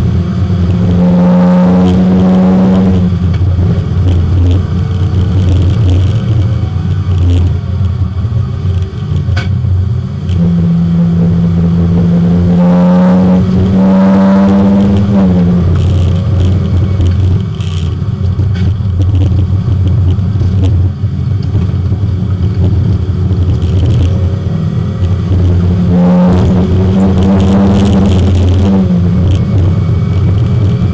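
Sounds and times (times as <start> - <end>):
low cabin drone: 0.0 - 30.9
race car engine under load: 0.0 - 30.9.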